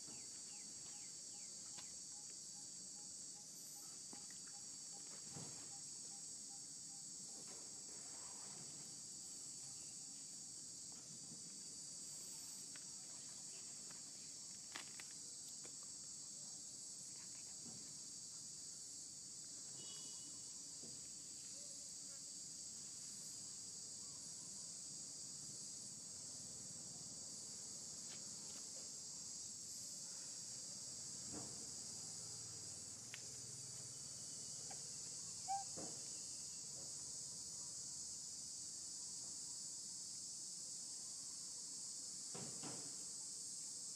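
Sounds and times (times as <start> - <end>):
shrill insect chorus: 0.0 - 43.9.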